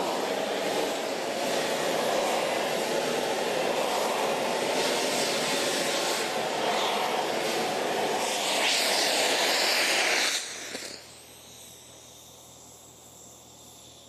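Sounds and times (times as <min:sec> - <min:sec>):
torch jet rushing: 0:00.0 - 0:11.3
faint steady hum: 0:00.0 - 0:14.0.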